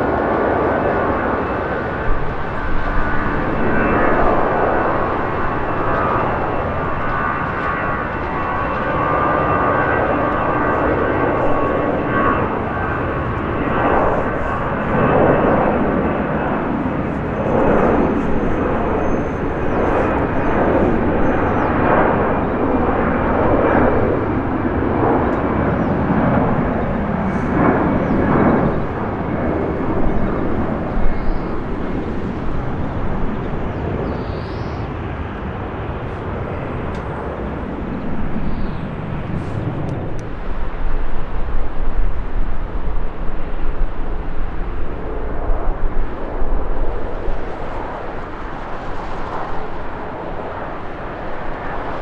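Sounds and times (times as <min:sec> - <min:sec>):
jet engines at takeoff power: 0:00.0 - 0:52.0.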